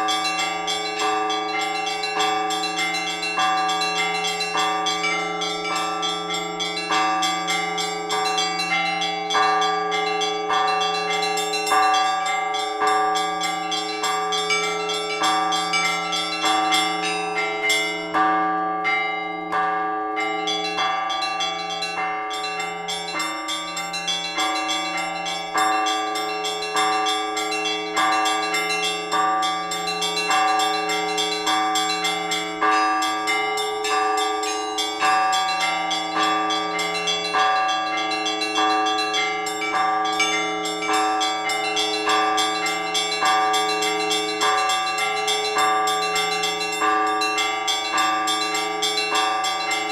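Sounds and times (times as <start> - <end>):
small high-pitched bells: 0.0 - 49.9.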